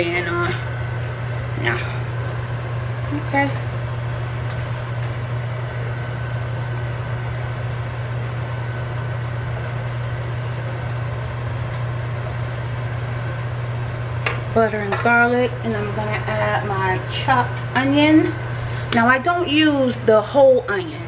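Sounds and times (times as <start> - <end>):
exhaust fan humming: 0.0 - 21.0.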